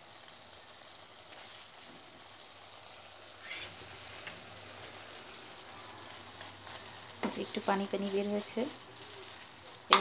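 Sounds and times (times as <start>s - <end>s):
pickle sizzling in a pan: 0.0s - 10.0s.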